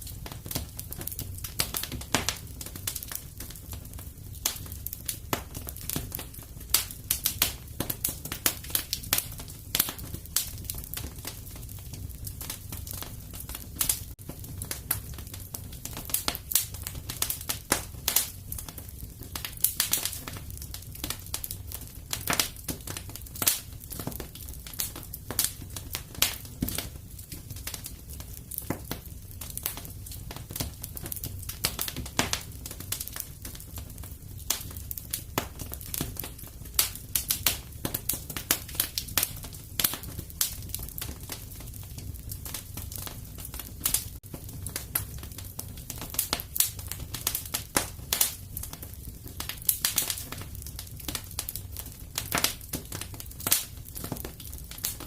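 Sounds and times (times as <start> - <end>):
fire crackling: 0.0 - 55.0
low rumble of flames: 0.0 - 55.0.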